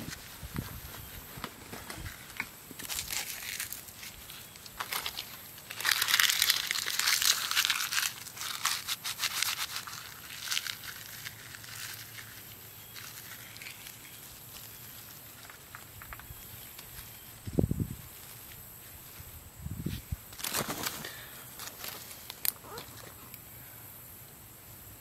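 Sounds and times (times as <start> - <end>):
faint rustling leaves: 0.0 - 25.0
dry leaves crackling: 0.1 - 19.5, 20.2 - 23.3.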